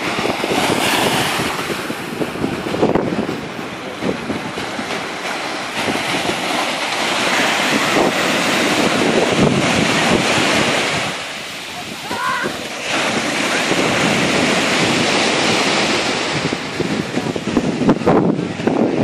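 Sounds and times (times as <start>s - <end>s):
waves breaking on shore: 0.0s - 19.0s
wind buffeting microphone: 0.0s - 19.0s.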